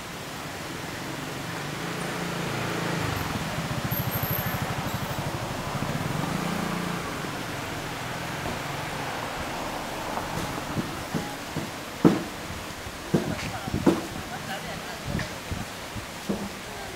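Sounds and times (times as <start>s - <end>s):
vehicle engine hum: 0.0s - 14.7s
shallow river water flowing: 0.0s - 16.9s.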